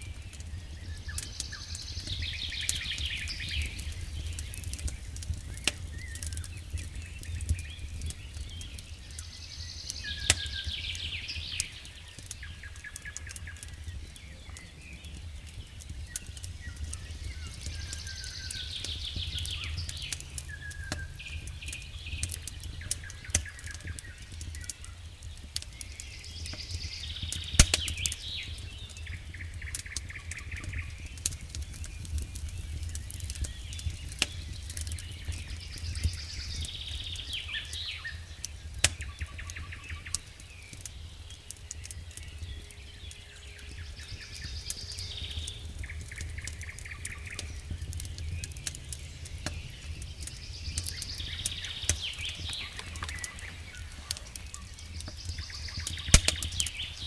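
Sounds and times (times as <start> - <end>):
campfire crackling and popping: 0.0 - 57.0
songbird singing: 0.0 - 57.0.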